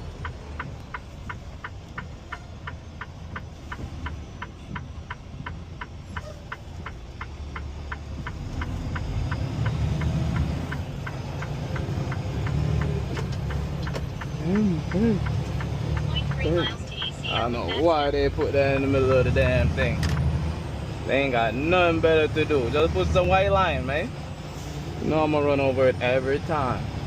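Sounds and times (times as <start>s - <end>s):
road noise: 0.0s - 27.0s
truck engine rumble: 0.0s - 27.0s
turn signal ticking: 0.0s - 27.0s.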